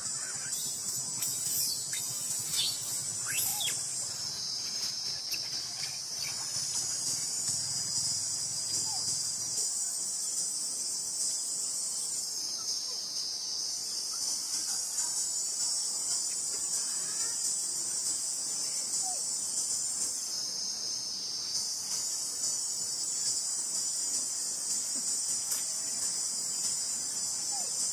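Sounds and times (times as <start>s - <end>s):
insects buzzing chorus: 0.0s - 27.9s.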